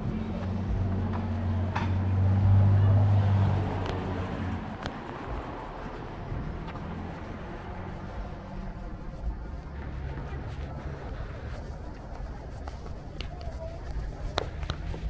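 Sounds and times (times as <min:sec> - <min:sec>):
vehicle engine passing: 0:00.0 - 0:12.9.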